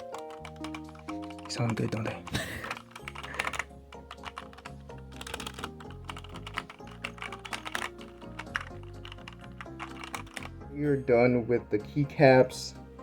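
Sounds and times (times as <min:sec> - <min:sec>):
mechanical keyboard typing: 0:00.0 - 0:10.5
background music: 0:00.0 - 0:13.0.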